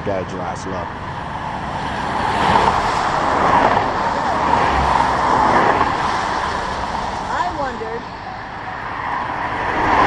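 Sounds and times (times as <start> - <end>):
highway traffic passing: 0.0 - 10.0.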